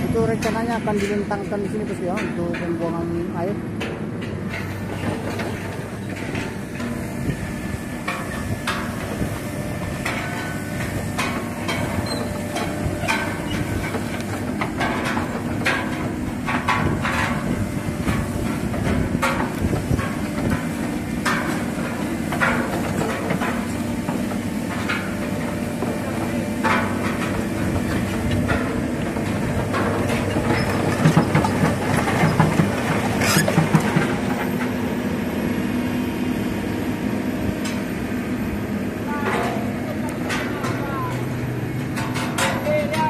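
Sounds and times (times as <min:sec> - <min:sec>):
excavator diesel engine running: 0:00.0 - 0:43.0
metal clanks and knocks: 0:00.2 - 0:07.4, 0:08.0 - 0:34.8, 0:39.1 - 0:43.0.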